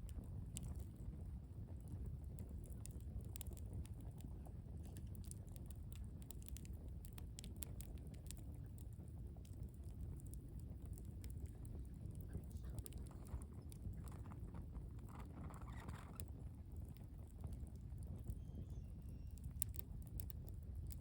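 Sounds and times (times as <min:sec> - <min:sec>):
campfire crackling and popping: 0:00.0 - 0:21.0
low fire rumble: 0:00.0 - 0:21.0.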